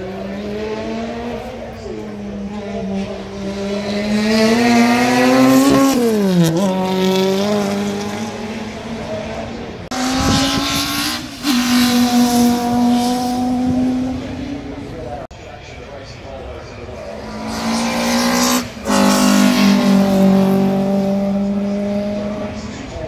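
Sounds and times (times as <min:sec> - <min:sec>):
race car engine at high revs: 0:00.0 - 0:15.3, 0:16.0 - 0:23.0.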